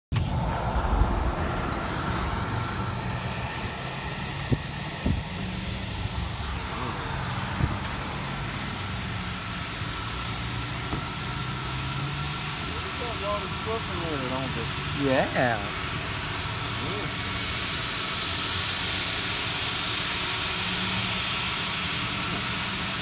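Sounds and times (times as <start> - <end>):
dryer blowers rushing air: 0.1 - 23.0.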